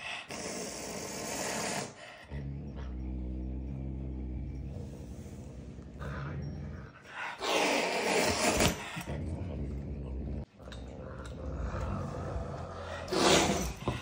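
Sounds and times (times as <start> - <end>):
wild cat growling: 0.3 - 14.0.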